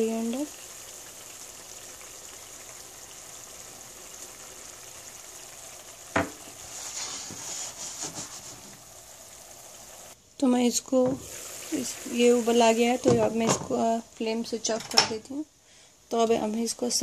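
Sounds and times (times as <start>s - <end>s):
pan hissing and sizzling: 0.0s - 14.8s.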